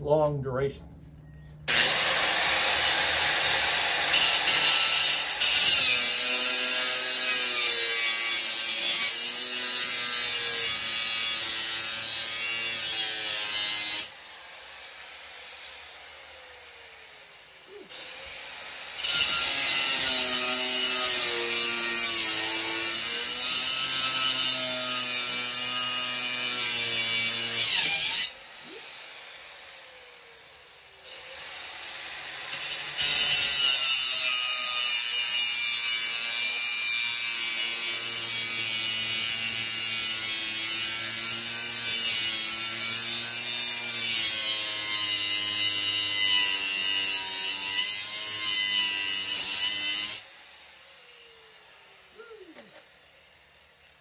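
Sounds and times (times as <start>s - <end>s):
angle grinder cutting metal: 1.7s - 52.1s.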